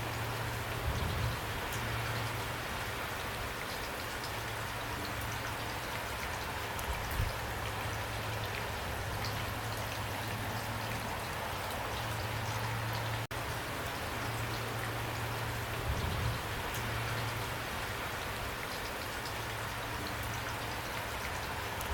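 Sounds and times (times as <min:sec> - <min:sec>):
pouring rain: 0:00.0 - 0:21.9.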